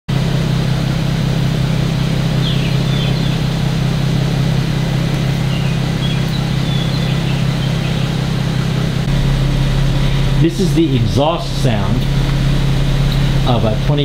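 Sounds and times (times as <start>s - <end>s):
car exhaust idling hum: 0.1s - 14.0s.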